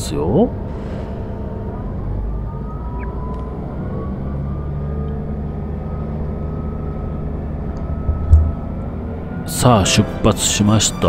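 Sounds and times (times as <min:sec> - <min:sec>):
railcar engine drone: 0:00.0 - 0:11.0.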